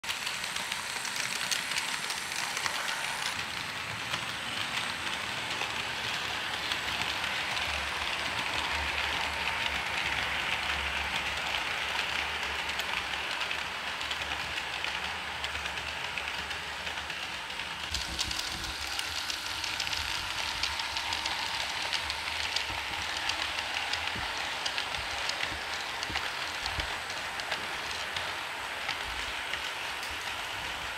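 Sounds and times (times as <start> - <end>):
model train motor whirring: 0.1 - 30.9.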